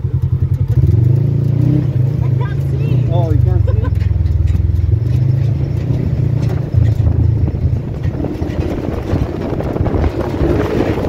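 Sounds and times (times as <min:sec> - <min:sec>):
off-road vehicle engine droning: 0:00.0 - 0:11.0.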